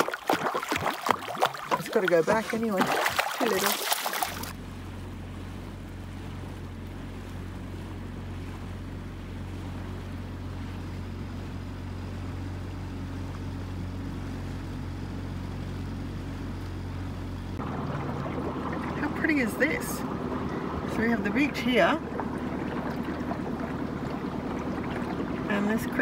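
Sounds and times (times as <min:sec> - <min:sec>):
outboard motor droning: 0:00.0 - 0:26.0
water along a hull: 0:00.0 - 0:26.0.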